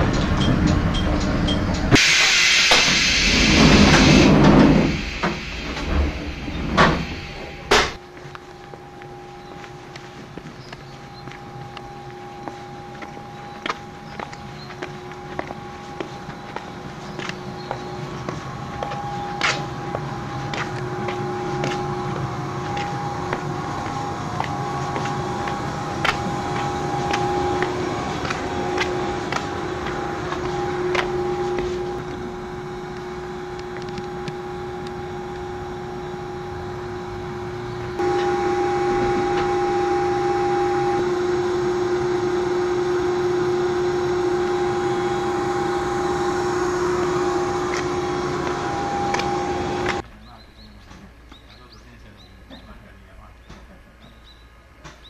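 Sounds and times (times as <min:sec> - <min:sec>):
electric railcar hum: 0:00.0 - 0:55.0.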